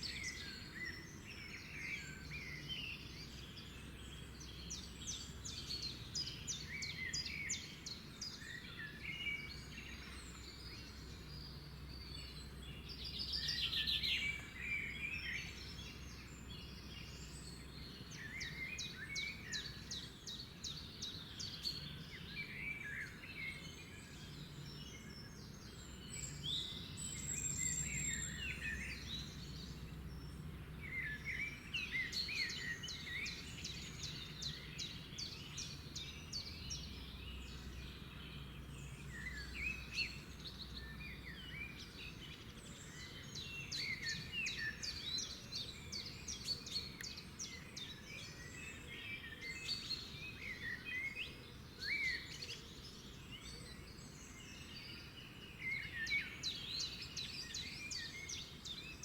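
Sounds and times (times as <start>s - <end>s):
wild birds singing: 0.0s - 59.0s.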